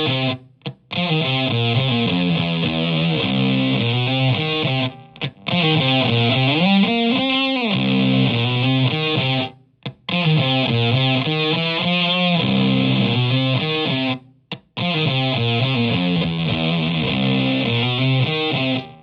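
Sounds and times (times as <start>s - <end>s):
distorted electric guitar riffs: 0.0s - 19.0s.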